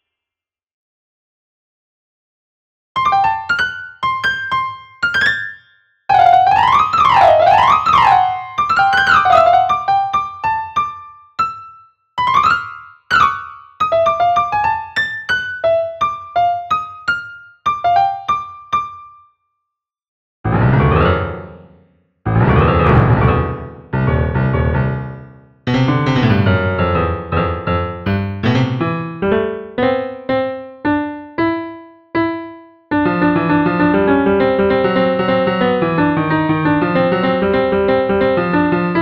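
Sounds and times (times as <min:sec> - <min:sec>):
solo piano music: 0:03.0 - 0:19.3, 0:20.5 - 0:39.0.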